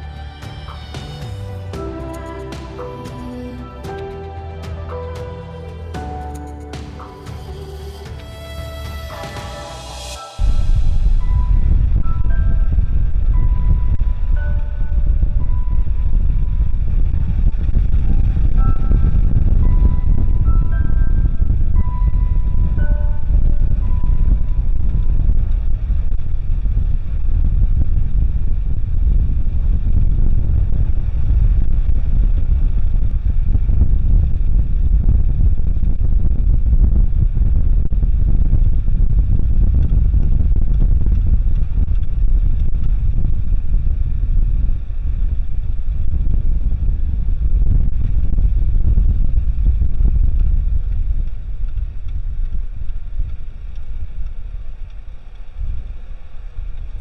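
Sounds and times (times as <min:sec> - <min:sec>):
wind buffeting microphone: 0:08.3 - 0:57.0.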